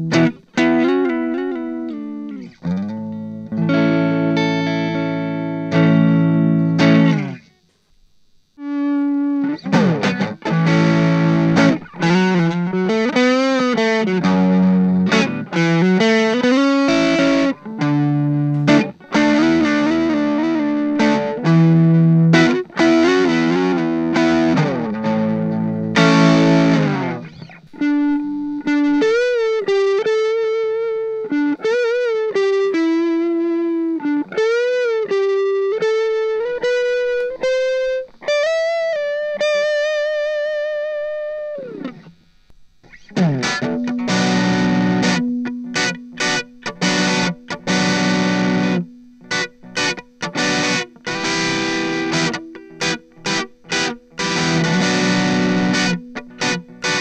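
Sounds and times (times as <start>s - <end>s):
overdriven electric guitar: 0.0s - 57.0s.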